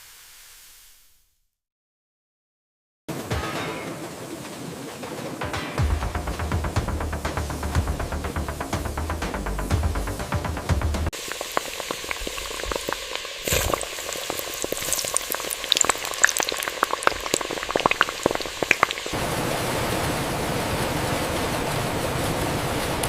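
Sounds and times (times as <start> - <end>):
oil crackling and sizzling: 0.0 - 1.2, 5.8 - 23.0
steady rushing noise: 3.1 - 23.0.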